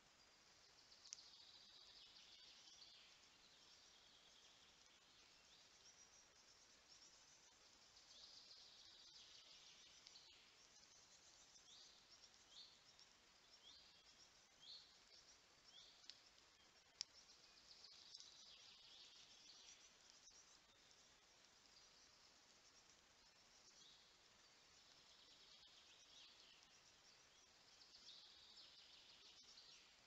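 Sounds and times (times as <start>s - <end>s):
quiet forest background: 0.0s - 30.0s.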